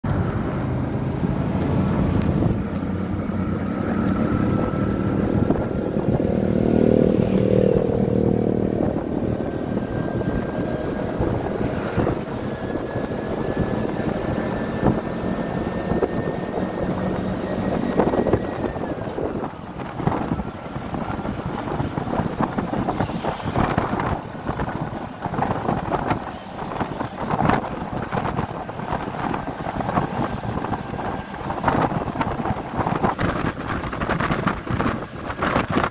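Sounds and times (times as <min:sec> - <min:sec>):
vehicle engine and road noise: 0:00.0 - 0:35.9
wind on microphone: 0:00.1 - 0:35.9.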